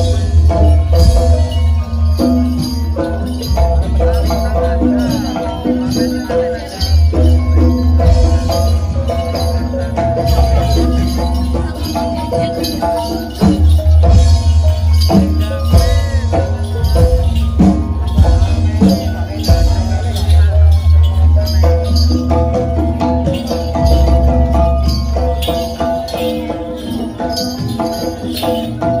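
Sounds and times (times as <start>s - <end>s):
drum strikes: 0.0s - 29.0s
jingling bells: 0.0s - 29.0s
metallophones playing melody: 0.0s - 29.0s.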